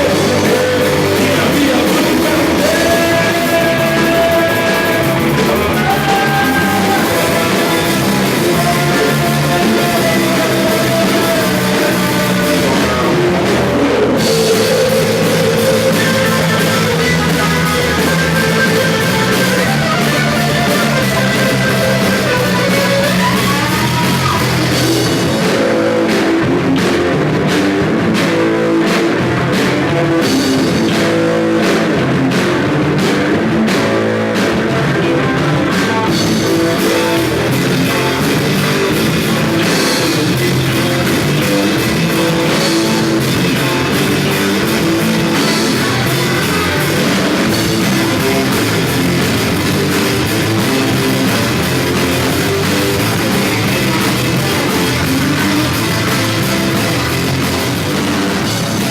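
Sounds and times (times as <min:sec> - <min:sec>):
rock band playing live: 0:00.0 - 0:58.9.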